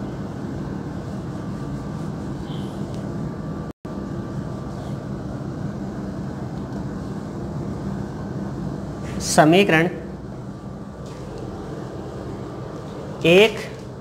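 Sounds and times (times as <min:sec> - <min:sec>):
room hum and hiss: 0:00.0 - 0:14.0.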